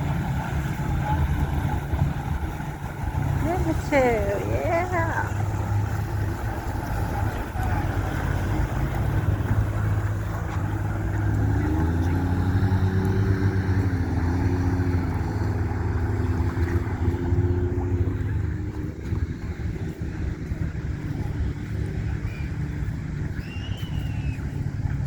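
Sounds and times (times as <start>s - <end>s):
motorboat engine droning: 0.0s - 25.0s
passing boat engine hum: 0.0s - 25.0s.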